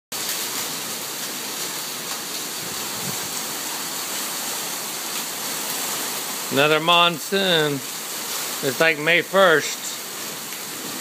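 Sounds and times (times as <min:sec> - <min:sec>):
heavy rain pouring: 0:00.1 - 0:11.0.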